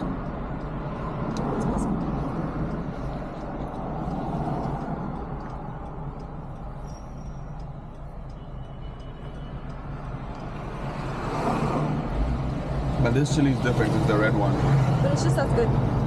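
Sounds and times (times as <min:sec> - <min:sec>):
street noise inside car: 0:00.0 - 0:16.0.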